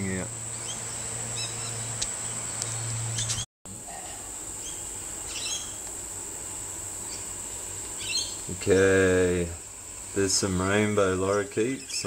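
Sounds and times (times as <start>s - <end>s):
high-pitched insect drone: 0.0s - 5.8s, 6.9s - 12.0s.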